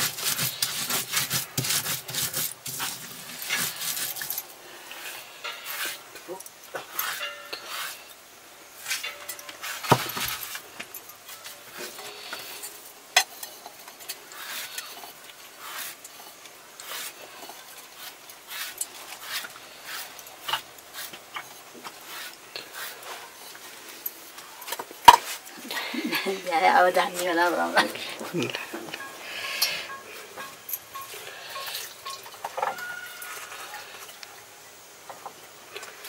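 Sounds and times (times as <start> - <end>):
utensil scraping a cooking pan: 0.0 - 10.7, 11.3 - 24.0, 24.6 - 34.2.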